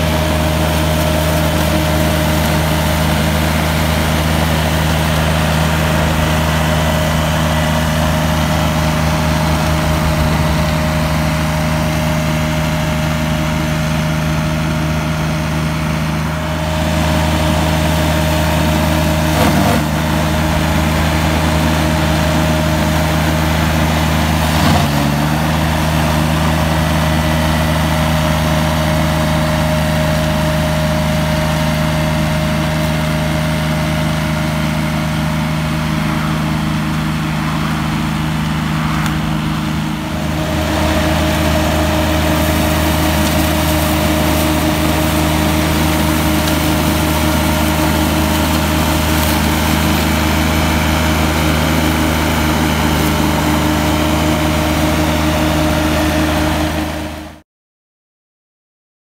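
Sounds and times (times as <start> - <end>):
flail mower droning: 0.0 - 57.4.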